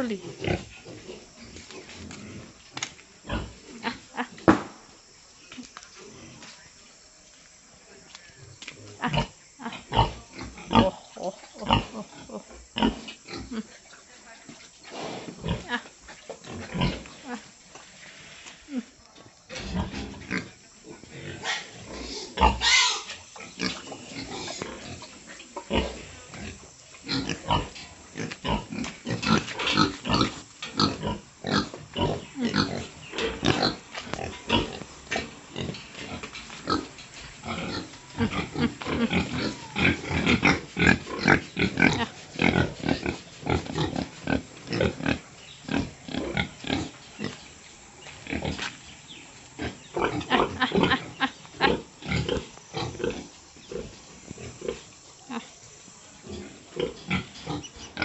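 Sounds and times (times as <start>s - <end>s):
pigs grunting and squealing: 0.0s - 2.6s, 3.2s - 4.4s, 8.8s - 13.8s, 15.0s - 17.6s, 19.6s - 47.4s, 49.6s - 55.6s, 56.2s - 58.0s.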